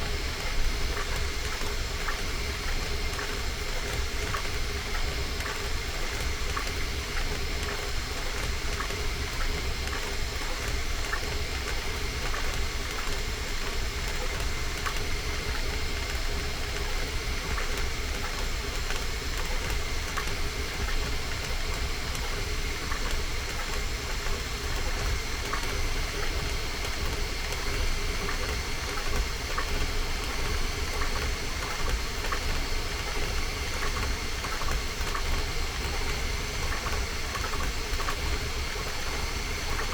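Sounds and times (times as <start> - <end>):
printer fans and motors humming: 0.0 - 39.9.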